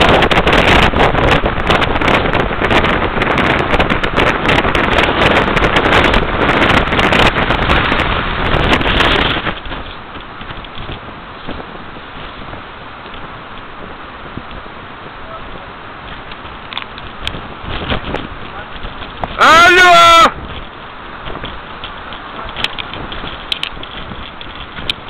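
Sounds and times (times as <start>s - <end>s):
surf breaking: 0.0s - 25.0s
wind buffeting microphone: 0.0s - 25.0s.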